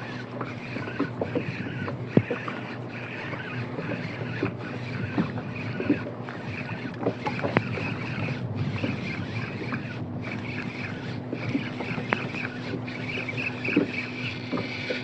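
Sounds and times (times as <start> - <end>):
water washing around kayak: 0.0 - 15.0
small knocks against hull: 0.4 - 15.0.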